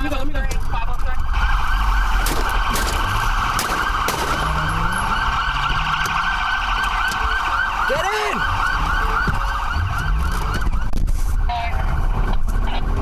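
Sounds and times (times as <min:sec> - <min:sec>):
engine and road rumble: 0:00.0 - 0:13.0
police siren yelping: 0:00.0 - 0:13.0.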